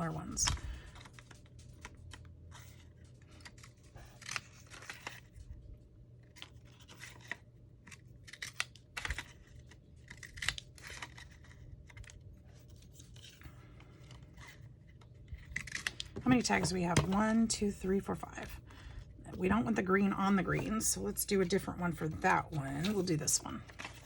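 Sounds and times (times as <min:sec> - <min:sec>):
paper being cut and handled: 0:00.0 - 0:05.5, 0:06.4 - 0:17.4, 0:19.4 - 0:24.0.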